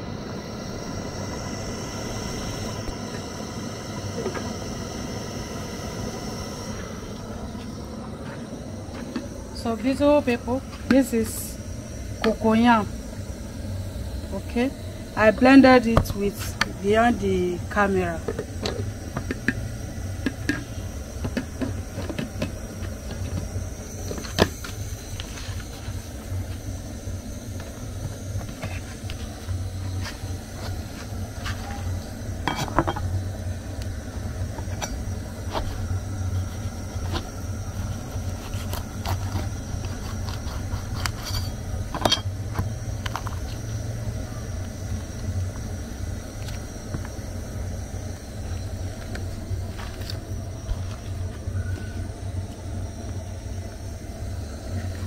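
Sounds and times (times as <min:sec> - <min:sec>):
steady low rumble: 0:00.0 - 0:51.4.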